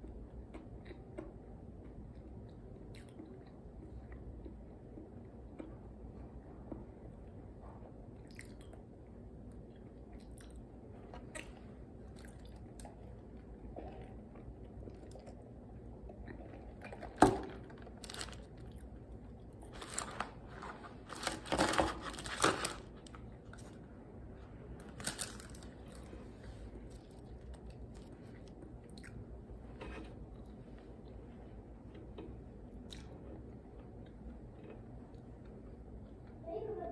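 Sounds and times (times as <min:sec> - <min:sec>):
person chewing food: 0:00.0 - 0:36.4.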